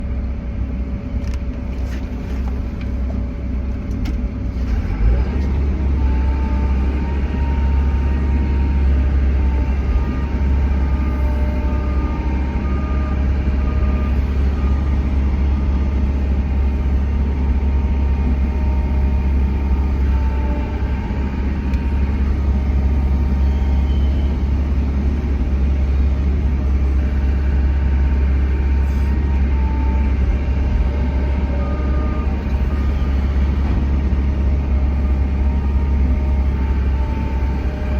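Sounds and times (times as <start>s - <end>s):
excavator diesel engine rumble: 0.0s - 37.9s.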